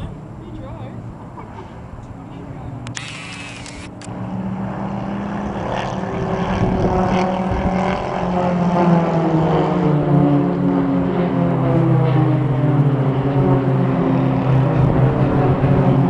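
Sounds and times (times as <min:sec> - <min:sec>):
propeller aircraft drone: 0:00.0 - 0:16.0.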